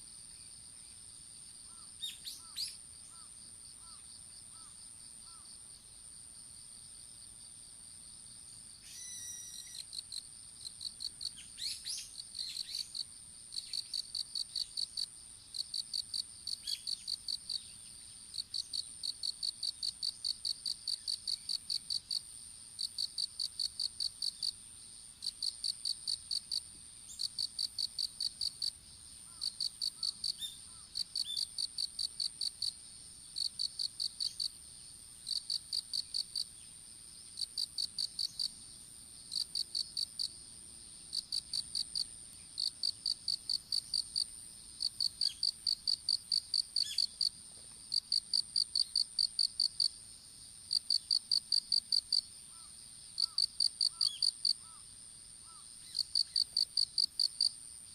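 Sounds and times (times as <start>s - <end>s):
insect chirping in quick trains: 8.7s - 24.6s, 25.2s - 57.9s
insect steady high trill: 8.7s - 57.9s.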